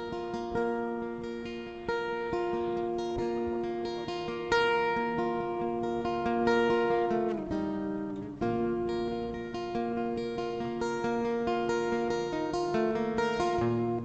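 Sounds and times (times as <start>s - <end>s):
strummed guitar chords: 0.0s - 14.0s.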